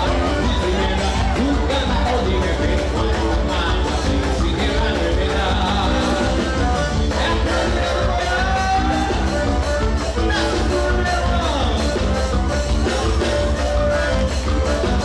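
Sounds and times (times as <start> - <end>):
person singing: 0.0 - 12.0
upbeat folk dance music: 0.0 - 15.0.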